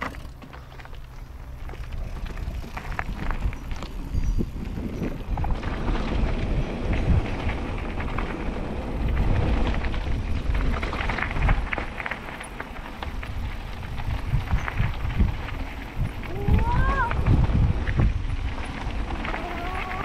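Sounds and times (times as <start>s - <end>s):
bike rattling: 0.0s - 20.0s
bike tyres crunching over stones: 0.0s - 20.0s
wind rumble on microphone: 0.7s - 20.0s.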